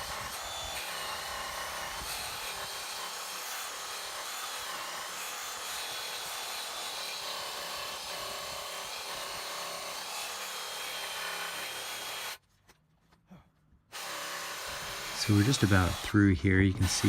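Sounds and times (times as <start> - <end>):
reciprocating saw cutting metal: 0.0 - 12.4, 14.0 - 17.0.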